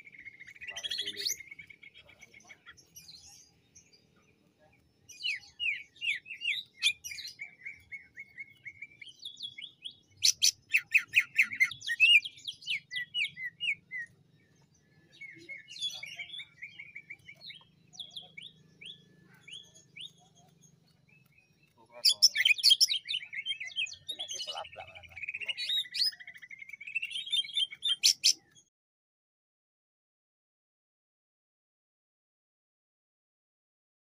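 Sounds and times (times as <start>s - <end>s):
bird chirps and trills: 0.0s - 28.7s.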